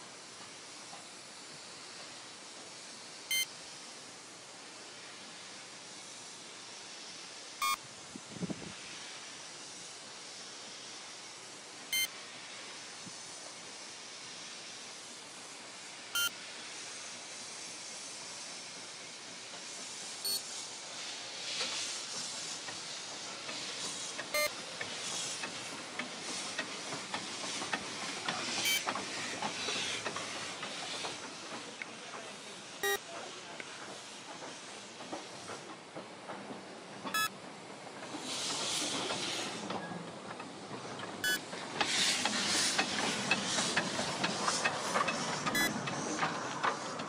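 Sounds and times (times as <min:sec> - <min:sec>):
hiss of escaping steam: 0:00.0 - 0:47.0
steam locomotive moving: 0:00.0 - 0:47.0.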